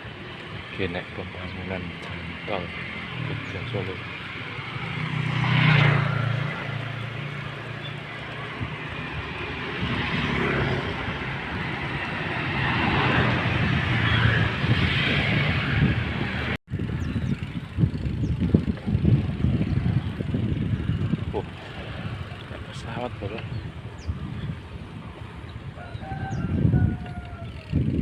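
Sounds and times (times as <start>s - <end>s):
engine hum: 0.0s - 28.0s
road and passing traffic noise: 0.0s - 28.0s.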